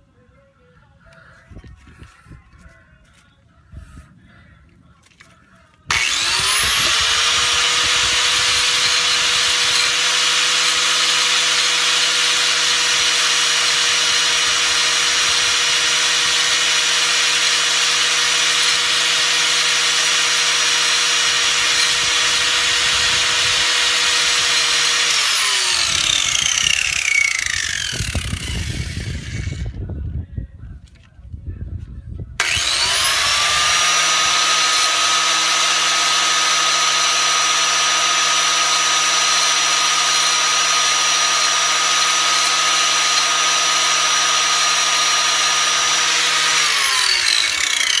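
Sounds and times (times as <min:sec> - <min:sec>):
electric angle grinder running: 0:05.9 - 0:29.8, 0:32.4 - 0:48.0.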